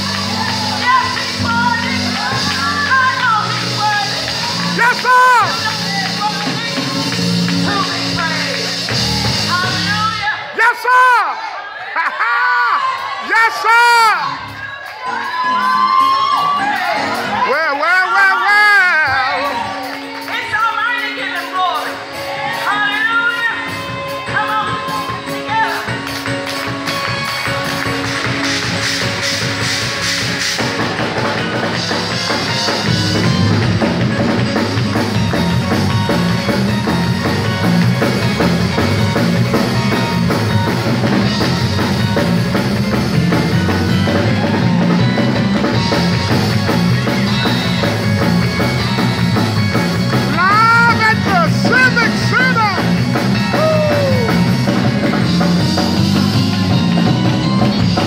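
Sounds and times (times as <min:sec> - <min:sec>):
drum kit beat: 0:00.0 - 0:10.3, 0:18.6 - 0:58.0.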